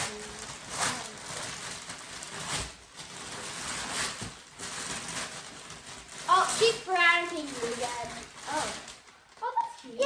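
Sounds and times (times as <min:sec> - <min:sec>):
wrapping paper rustling and tearing: 0:00.0 - 0:10.0.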